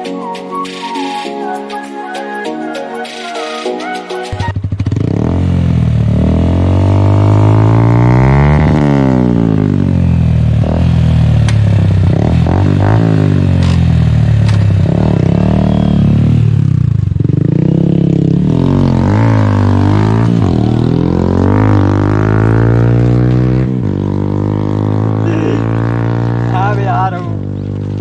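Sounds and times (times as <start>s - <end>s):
motorcycle engine revving: 4.4s - 28.0s.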